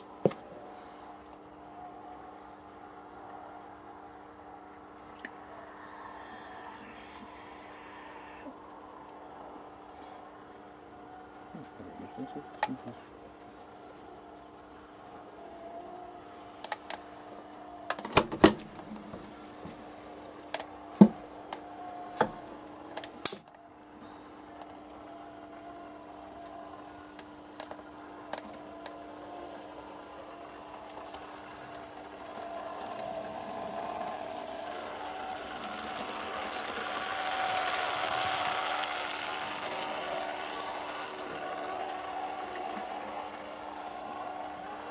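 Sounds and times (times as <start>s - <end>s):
model train rattling whir: 0.0s - 44.9s.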